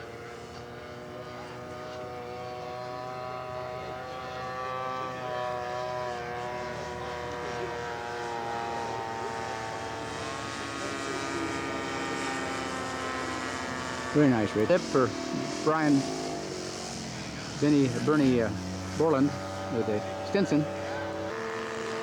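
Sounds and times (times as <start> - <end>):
model airplane propeller drone: 0.0 - 22.0.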